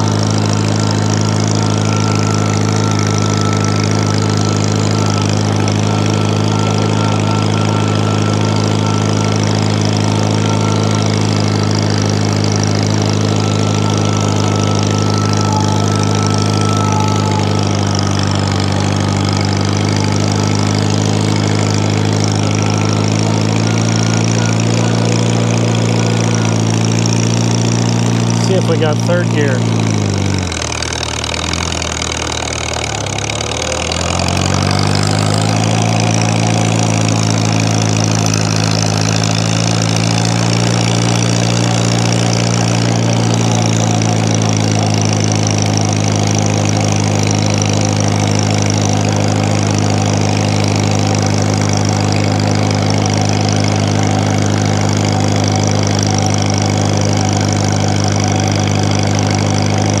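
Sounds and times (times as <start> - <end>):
tractor engine pulling: 0.0 - 60.0.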